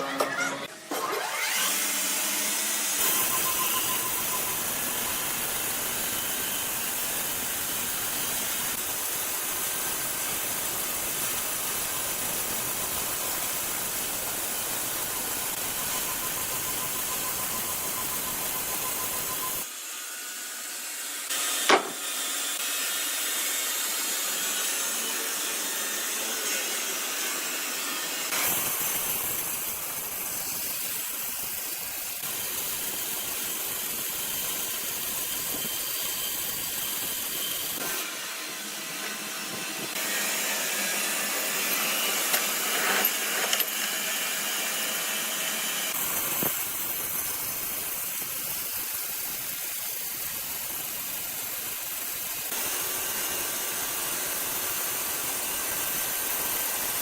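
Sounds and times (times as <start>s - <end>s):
sawmill machinery whirring: 0.0s - 57.0s.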